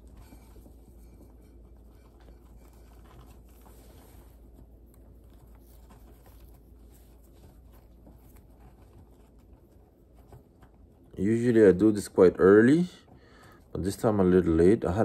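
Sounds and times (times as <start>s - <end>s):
faint rustling: 0.0s - 15.0s
low steady hum: 0.0s - 15.0s.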